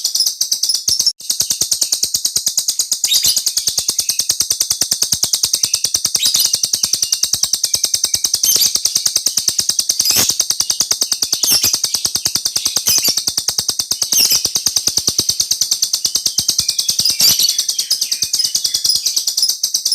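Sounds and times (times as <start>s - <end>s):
small bird trilling: 0.0s - 19.9s.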